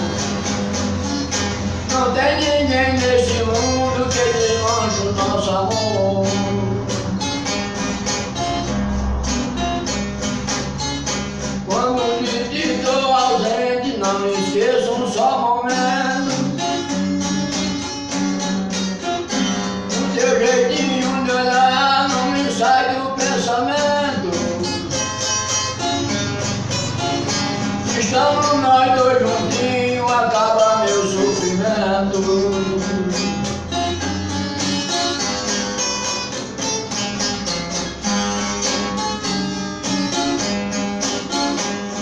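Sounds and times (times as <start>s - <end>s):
solo strummed and plucked guitar: 0.0s - 42.0s.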